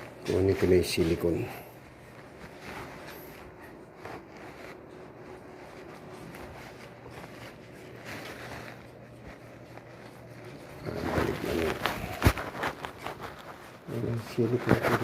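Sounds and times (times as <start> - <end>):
faint rustling and handling: 0.0 - 15.0
low steady hum: 0.0 - 15.0.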